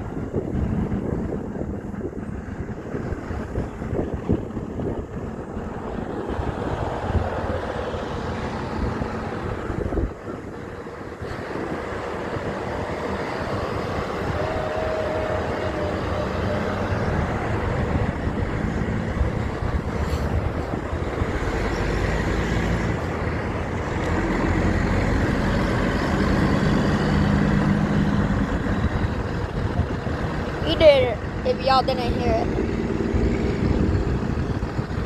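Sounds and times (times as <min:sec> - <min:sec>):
heavy trucks driving past: 0:00.0 - 0:35.0
low engine drone: 0:00.0 - 0:35.0.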